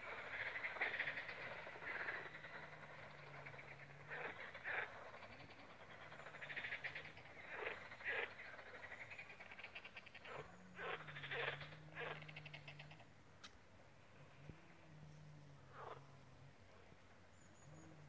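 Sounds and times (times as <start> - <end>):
frogs croaking: 0.0 - 13.2, 14.0 - 18.0
faint low hum: 0.0 - 18.0.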